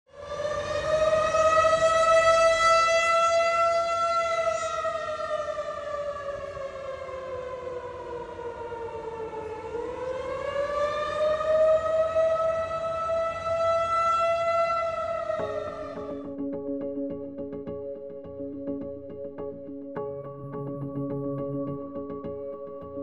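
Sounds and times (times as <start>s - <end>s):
warning siren wailing: 0.1s - 23.0s.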